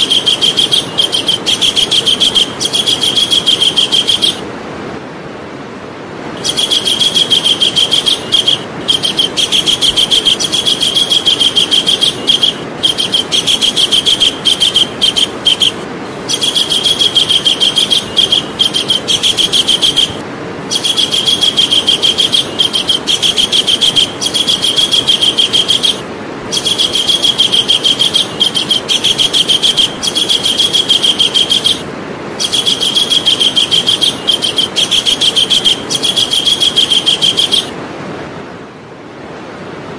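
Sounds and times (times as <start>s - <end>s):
kingfisher rattling trills: 0.0s - 4.4s, 6.4s - 37.8s
background hiss: 0.0s - 37.8s.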